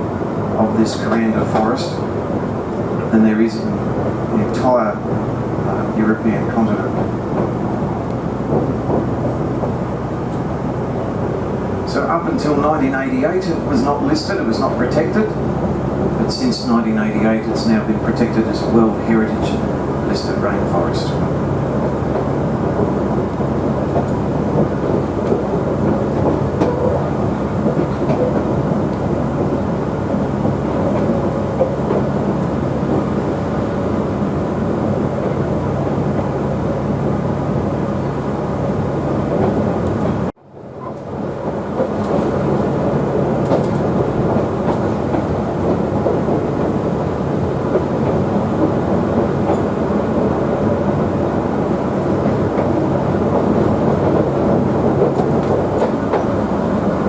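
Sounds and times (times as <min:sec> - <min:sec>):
rail motor running on track: 0:00.0 - 0:57.0.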